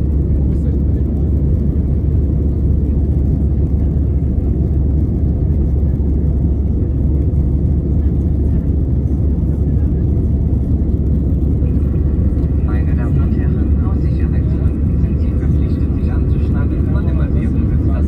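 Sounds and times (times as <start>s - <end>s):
aircraft cabin engine rumble: 0.0s - 18.0s.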